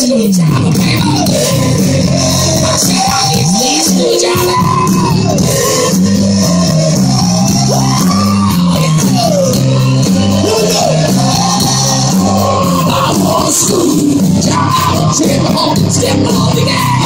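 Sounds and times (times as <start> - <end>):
drums: 0.0 - 17.0
electric guitars: 0.0 - 17.0
stepping bass line: 0.0 - 17.0.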